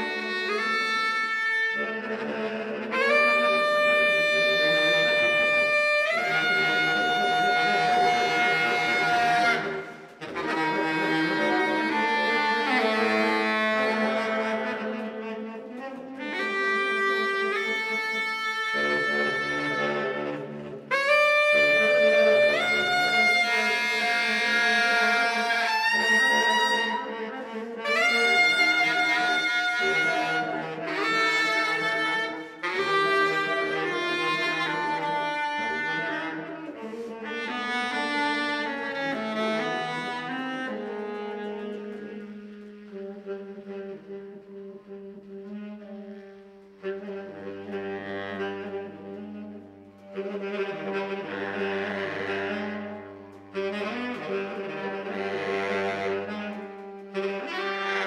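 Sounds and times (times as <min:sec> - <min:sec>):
baritone saxophones improvising: 0:00.0 - 0:58.0.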